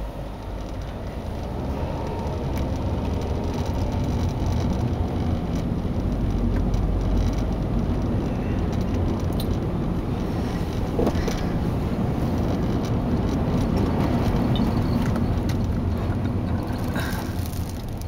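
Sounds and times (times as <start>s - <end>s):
road and wind noise in car: 0.0s - 18.0s.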